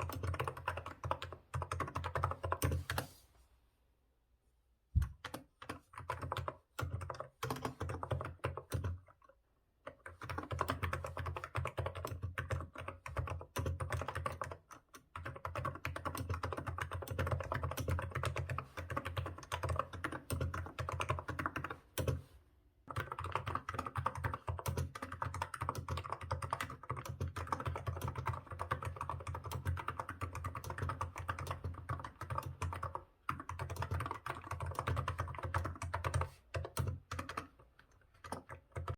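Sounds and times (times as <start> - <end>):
fast typing on a keyboard: 0.0 - 3.0, 5.0 - 22.2, 22.9 - 38.9.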